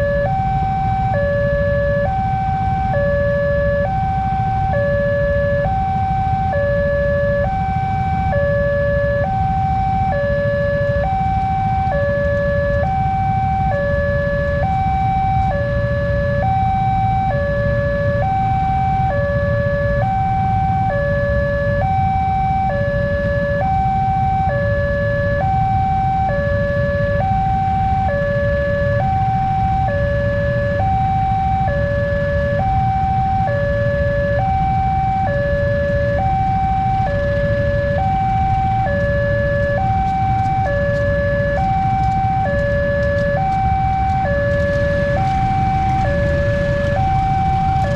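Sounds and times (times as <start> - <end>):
two-tone crossing alarm: 0.0 - 47.9.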